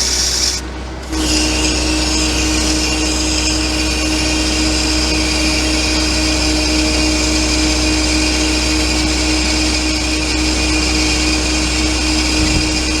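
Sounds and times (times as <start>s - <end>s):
excavator engine drone: 0.0s - 13.0s
excavator hydraulic whine: 0.0s - 13.0s.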